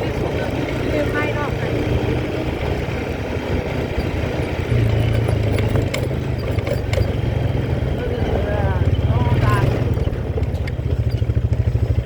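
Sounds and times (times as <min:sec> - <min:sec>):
quad bike engine humming: 0:00.0 - 0:12.0.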